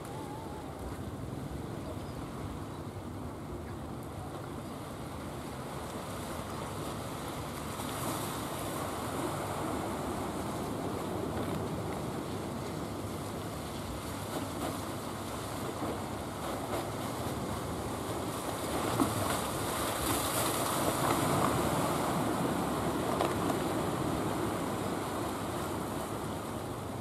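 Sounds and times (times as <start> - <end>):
sea waves and surf: 0.0 - 27.0.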